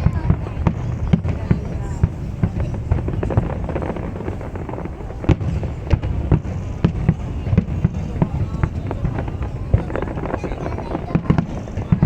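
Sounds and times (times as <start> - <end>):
distant fireworks rumble: 0.0 - 12.0
fireworks bangs and crackles: 0.0 - 12.0.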